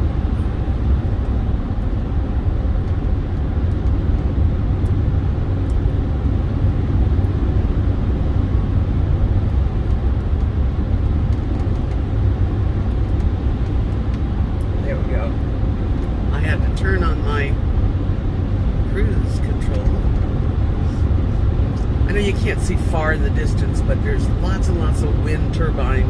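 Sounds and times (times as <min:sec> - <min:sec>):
road and engine noise in cab: 0:00.0 - 0:26.0.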